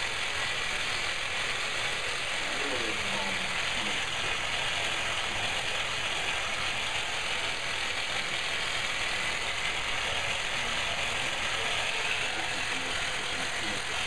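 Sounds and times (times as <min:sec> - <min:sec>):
motorized device whirring: 0:00.0 - 0:14.0.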